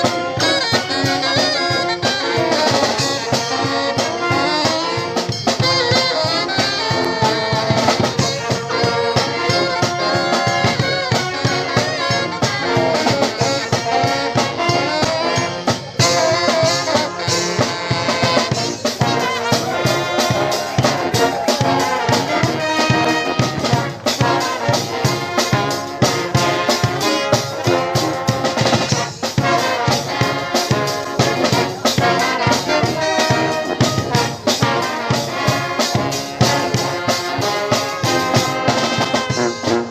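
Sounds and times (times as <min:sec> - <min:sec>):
brass band playing: 0:00.0 - 0:39.9
driving drum beat: 0:00.0 - 0:39.9.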